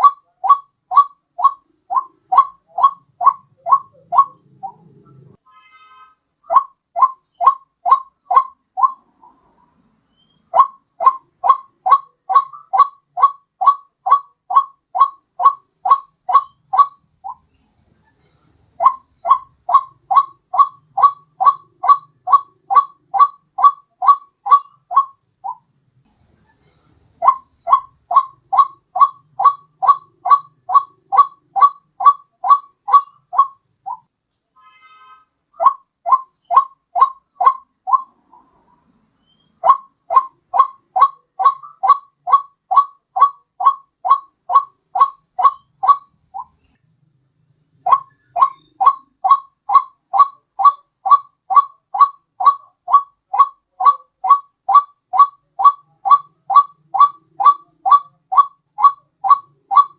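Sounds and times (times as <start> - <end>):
waterhen call: 0.0 - 17.5, 18.8 - 25.6, 27.2 - 34.0, 34.6 - 38.6, 39.2 - 46.7, 47.8 - 59.9.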